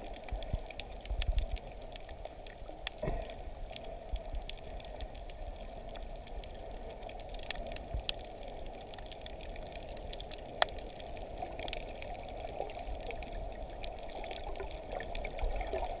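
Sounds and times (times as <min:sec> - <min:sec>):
crackling clicks: 0:00.0 - 0:16.0
muffled underwater noise: 0:00.0 - 0:16.0.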